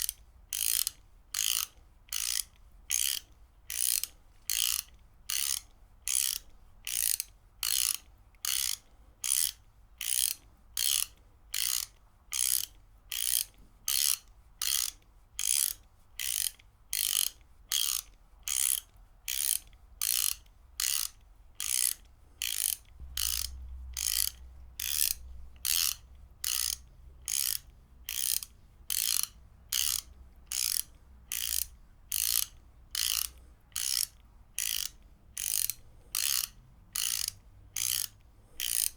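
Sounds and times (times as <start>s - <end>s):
ratchet wrench clicking: 0.0s - 38.9s.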